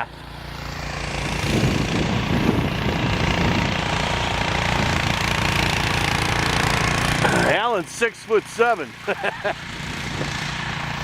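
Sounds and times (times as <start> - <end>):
snow blower engine running: 0.0 - 11.0.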